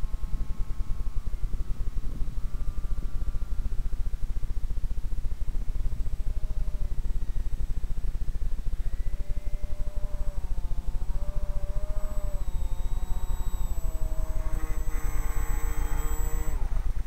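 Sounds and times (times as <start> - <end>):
distant motor and propeller whine: 0.0 - 17.0
low fluttering rumble on microphone: 0.0 - 17.0.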